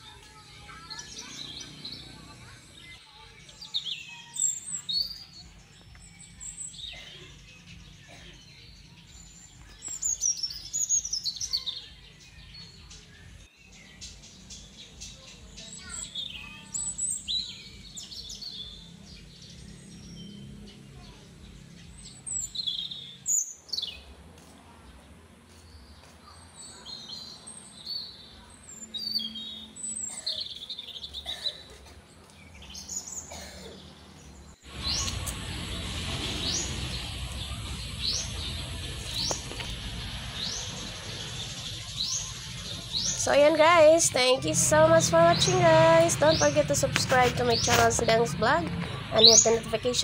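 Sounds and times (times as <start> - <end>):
birds chirping and calling: 0.0 - 24.5, 25.5 - 50.0.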